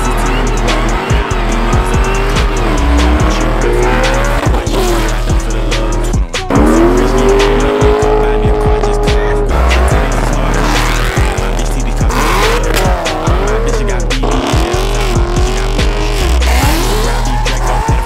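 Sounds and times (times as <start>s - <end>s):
car engines revving: 0.0s - 18.0s
hip-hop music with heavy bass: 0.0s - 18.0s
tyres squealing: 0.0s - 18.0s.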